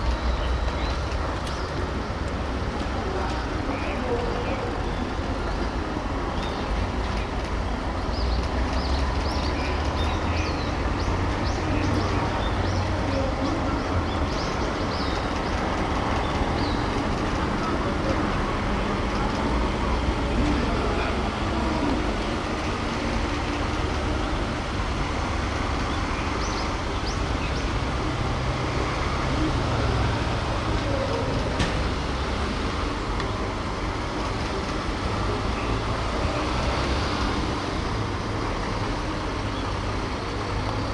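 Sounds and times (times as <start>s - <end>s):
crowd hubbub: 0.0s - 40.9s
road noise: 0.0s - 40.9s
vehicles driving past: 0.0s - 40.9s.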